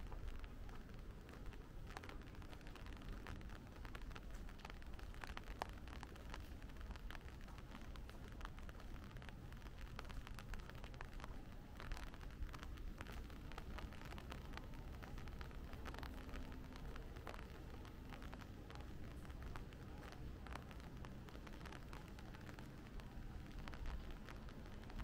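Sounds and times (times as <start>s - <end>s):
low background rumble: 0.0s - 25.0s
rain hiss: 0.0s - 25.0s
raindrops tapping: 0.0s - 25.0s.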